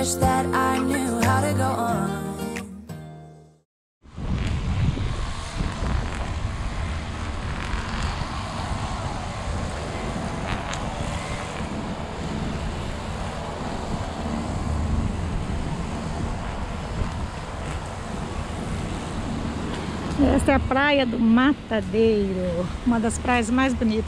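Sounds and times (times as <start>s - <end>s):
wind buffeting microphone: 4.0s - 24.0s.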